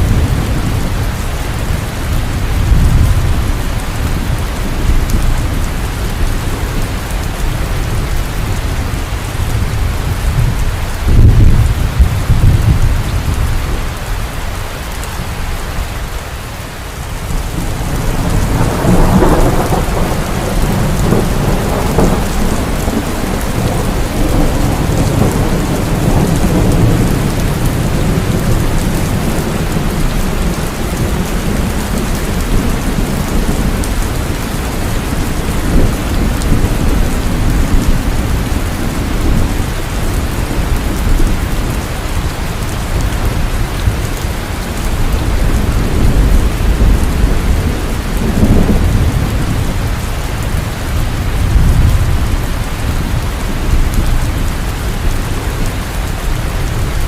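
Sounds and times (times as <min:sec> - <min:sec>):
heavy rain falling: 0:00.0 - 0:57.0
thunder rumbling: 0:00.0 - 0:57.0.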